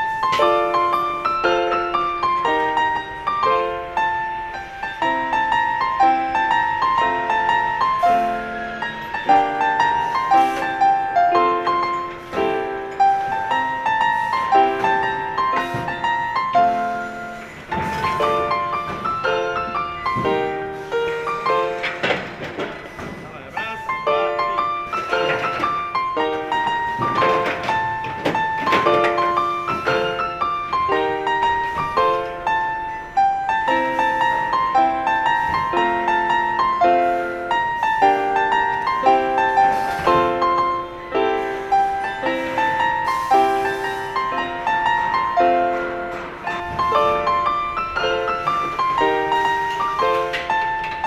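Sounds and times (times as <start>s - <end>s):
piano playing broken chords: 0.0s - 51.0s.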